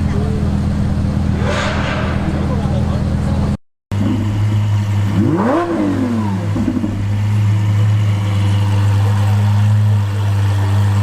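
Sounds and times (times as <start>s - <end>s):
engine revving: 1.2s - 11.0s.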